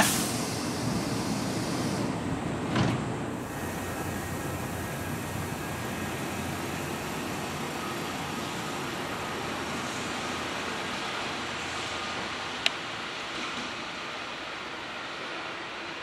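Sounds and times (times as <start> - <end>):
electric train rushing hum: 0.0 - 16.0.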